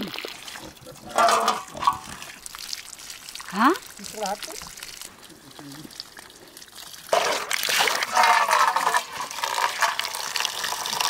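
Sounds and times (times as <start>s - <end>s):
water pouring into steel bowl: 0.0s - 11.0s.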